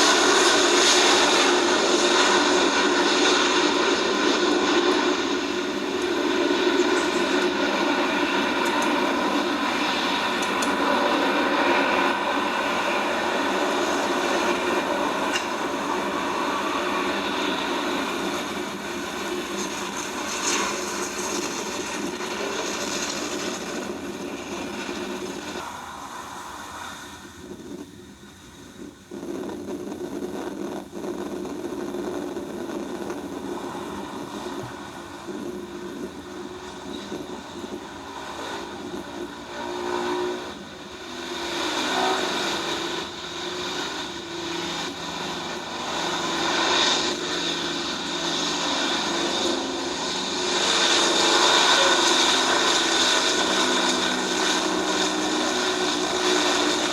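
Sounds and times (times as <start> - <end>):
jet airliner engine noise: 0.0 - 56.9.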